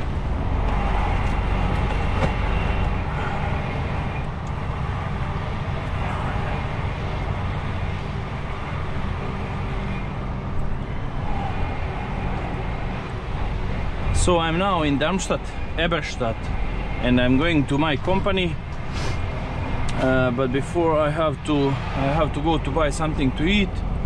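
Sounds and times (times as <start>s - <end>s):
road noise: 0.0s - 24.0s
truck diesel engine running: 0.0s - 24.0s.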